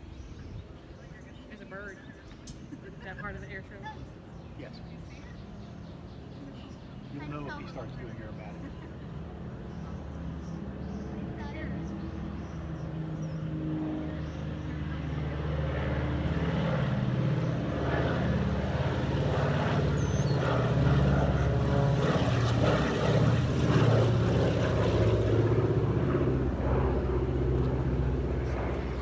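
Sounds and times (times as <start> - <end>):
propeller airplane passing overhead: 0.0 - 29.0.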